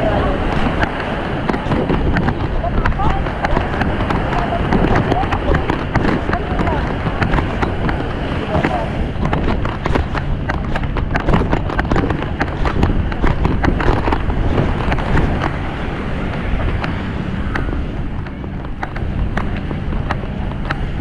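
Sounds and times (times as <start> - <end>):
wind buffeting microphone: 0.0 - 21.0
sharp clicks and knocks: 0.4 - 21.0.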